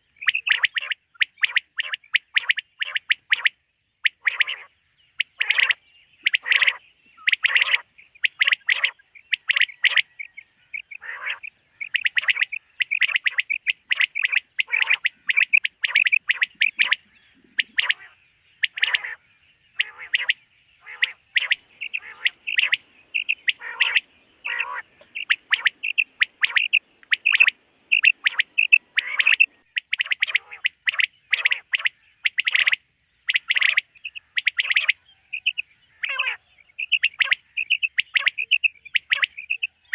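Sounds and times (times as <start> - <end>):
quail calling: 0.0 - 19.2, 19.8 - 39.9.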